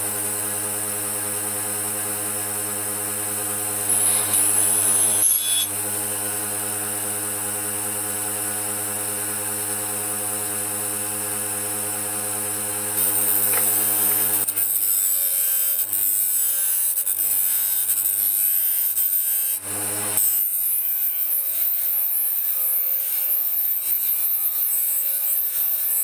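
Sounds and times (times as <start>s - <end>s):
electric power tool motor hum: 0.0s - 26.0s.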